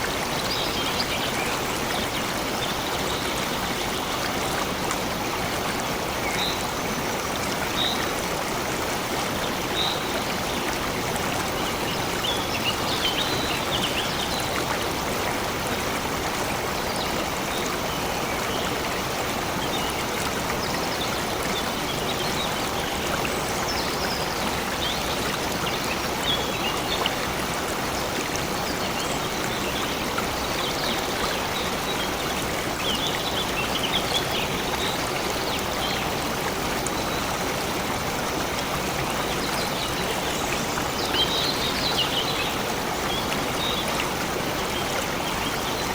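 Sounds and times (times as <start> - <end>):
stream water flowing: 0.0 - 45.9.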